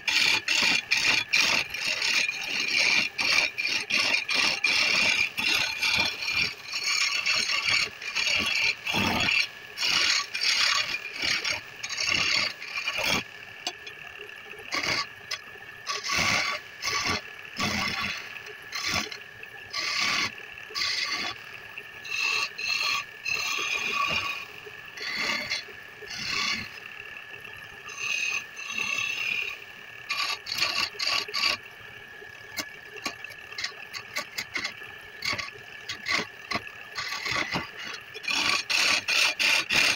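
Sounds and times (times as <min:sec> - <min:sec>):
turning tool scraping wood: 0:00.0 - 0:14.0, 0:14.6 - 0:21.4, 0:22.0 - 0:24.4, 0:25.0 - 0:26.8, 0:30.1 - 0:31.6, 0:32.5 - 0:39.9
wood lathe whining: 0:00.0 - 0:31.8, 0:32.5 - 0:39.9.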